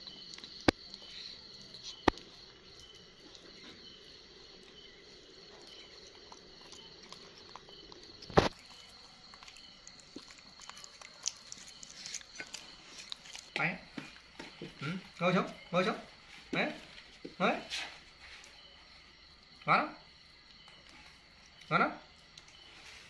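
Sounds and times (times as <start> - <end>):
insect chirring: 0.0 - 23.0.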